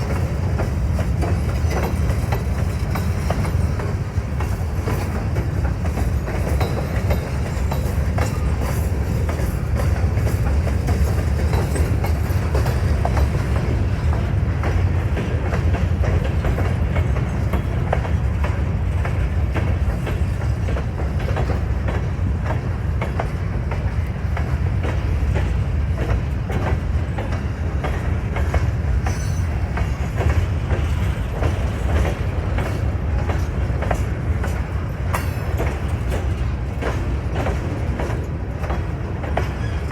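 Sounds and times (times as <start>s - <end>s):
train low rumble: 0.0s - 39.9s
wheels clacking over rail joints: 0.0s - 39.9s.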